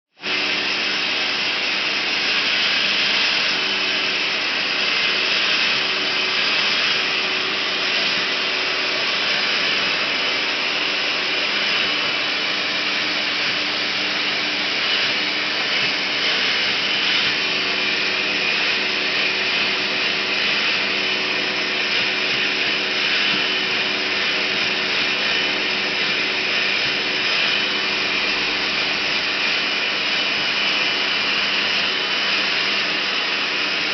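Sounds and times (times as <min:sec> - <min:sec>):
vacuum cleaner running: 0:00.1 - 0:33.9.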